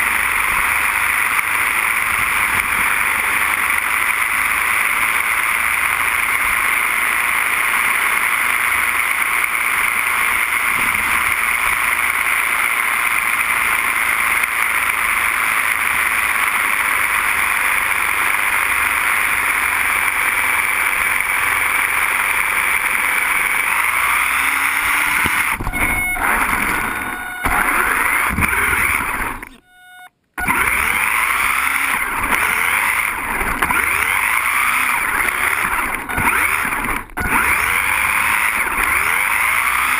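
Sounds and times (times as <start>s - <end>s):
rc car motor and wheels rushing: 0.0s - 39.9s.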